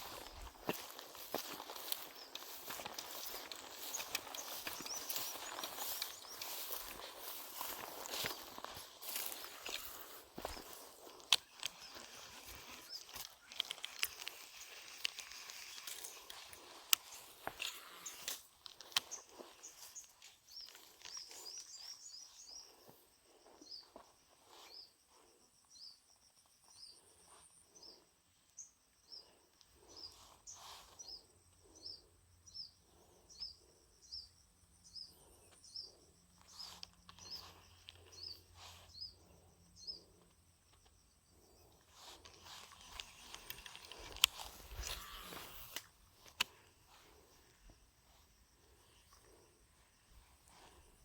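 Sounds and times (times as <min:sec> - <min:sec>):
faint outdoor background noise: 0:00.0 - 0:51.0.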